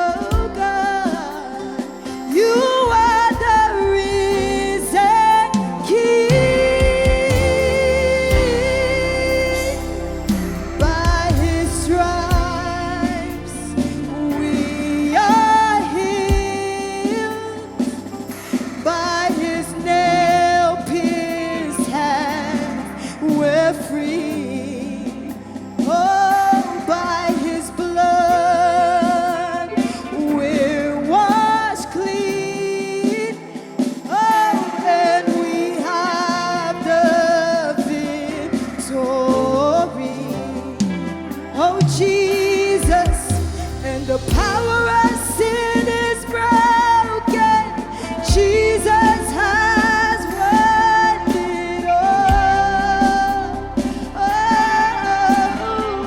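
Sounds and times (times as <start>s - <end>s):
backing vocals: 0.0s - 56.0s
lead singer with vibrato: 0.0s - 56.0s
live band playing: 0.0s - 56.0s.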